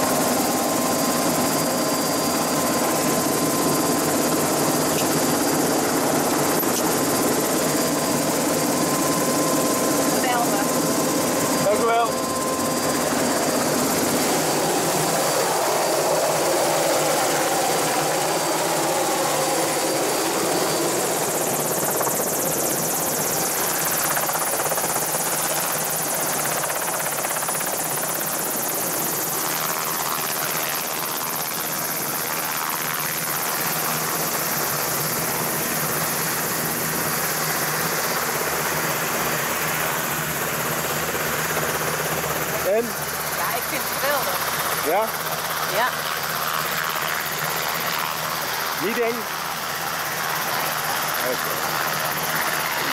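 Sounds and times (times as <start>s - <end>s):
helicopter engine and rotor: 0.0s - 52.9s
high turbine whine: 0.0s - 52.9s.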